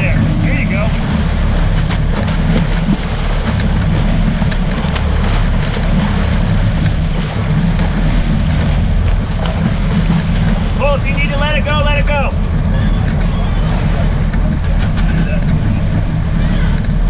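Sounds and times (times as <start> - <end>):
boat engines rumbling: 0.0 - 17.0
water churning and splashing: 0.0 - 17.0
wind buffeting microphone: 0.0 - 17.0.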